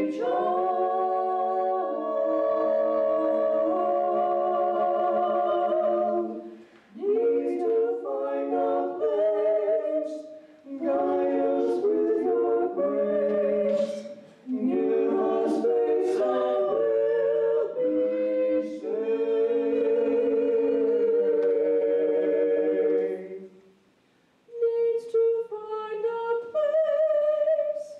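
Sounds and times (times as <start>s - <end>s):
vocal trio singing a cappella: 0.0s - 23.8s, 24.5s - 27.9s.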